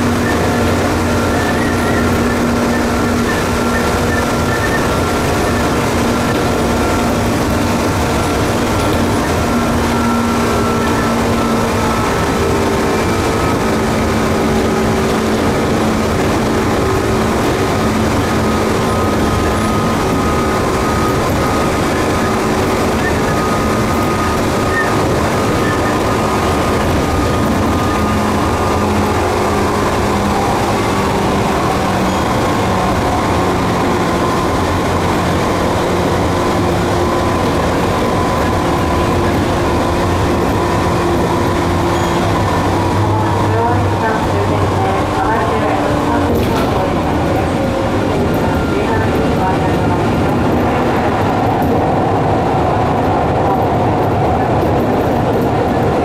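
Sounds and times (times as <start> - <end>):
traction motor whine: 0.0 - 54.3
wind rush and wheels on rails: 0.0 - 56.0.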